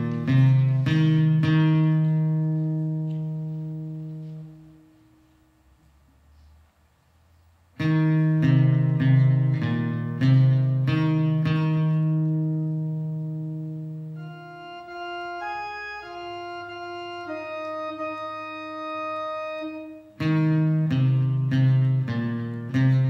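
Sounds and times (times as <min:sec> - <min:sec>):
guitar chords strummed: 0:00.0 - 0:05.3, 0:07.8 - 0:23.0
organ chords: 0:00.0 - 0:05.8, 0:07.8 - 0:23.0.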